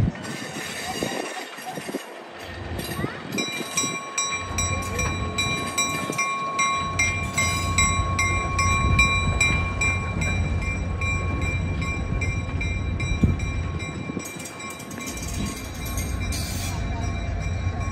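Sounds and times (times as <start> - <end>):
diesel locomotive rumbling: 0.0 - 17.9
bell ringing rapidly: 3.3 - 17.9.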